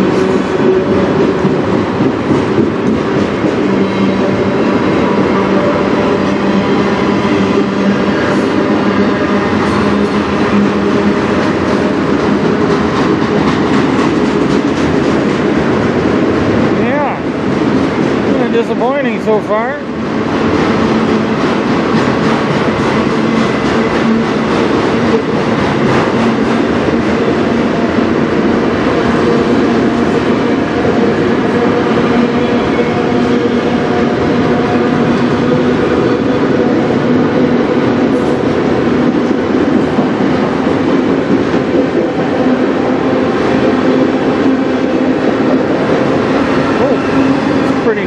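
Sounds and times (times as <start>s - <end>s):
steel wheels rumbling on rail: 0.0s - 48.0s.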